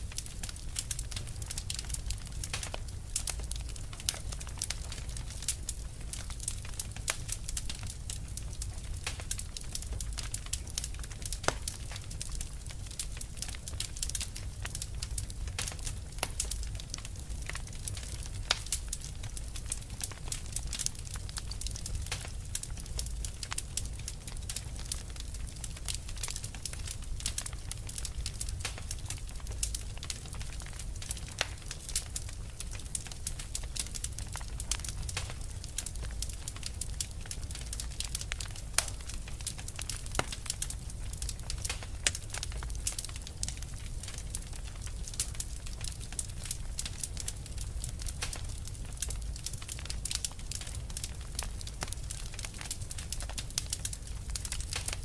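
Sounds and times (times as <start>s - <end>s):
fire low rumble: 0.0s - 55.0s
wood fire crackling: 0.0s - 55.0s.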